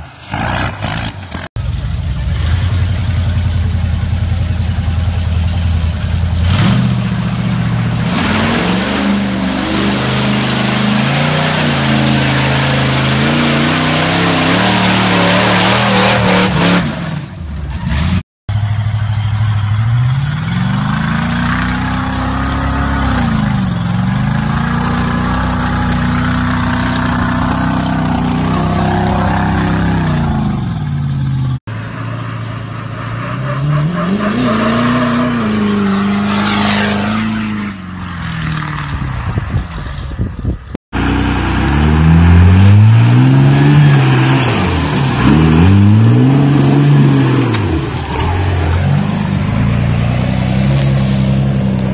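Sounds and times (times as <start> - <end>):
truck engines revving: 0.0 - 51.9.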